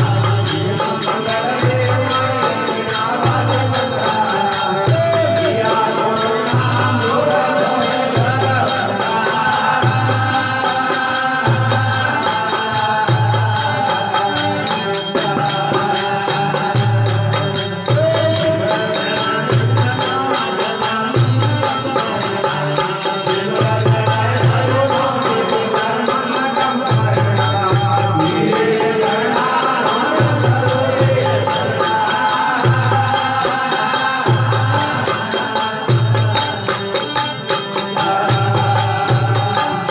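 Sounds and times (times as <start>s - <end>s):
devotional melody: 0.0s - 39.9s.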